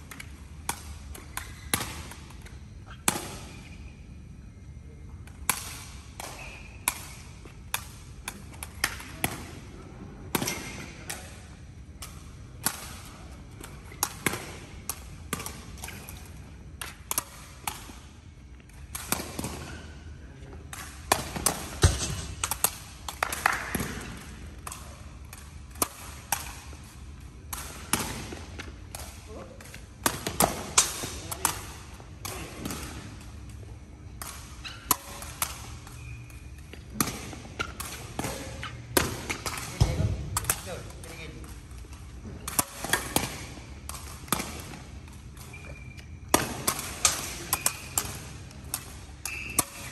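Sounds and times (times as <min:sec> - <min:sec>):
balls kicked with sharp smacks: 0:00.1 - 0:03.7, 0:12.0 - 0:19.9, 0:20.6 - 0:35.8, 0:36.6 - 0:49.9.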